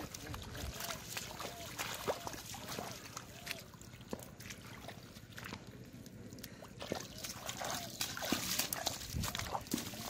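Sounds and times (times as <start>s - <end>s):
splashing and squelching in mud: 0.0s - 10.0s.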